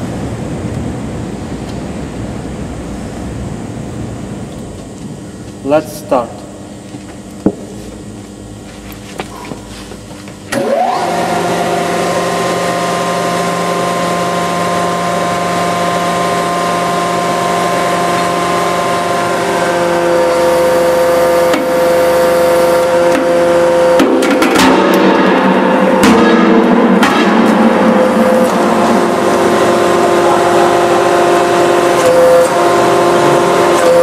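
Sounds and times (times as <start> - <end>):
hydraulic pump whine: 0.0 - 34.0.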